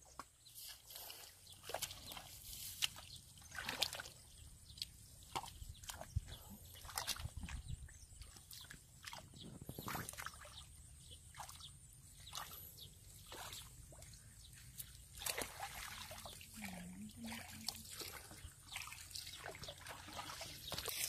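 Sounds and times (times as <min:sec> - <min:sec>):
muddy water sloshing and splashing: 0:00.0 - 0:21.0.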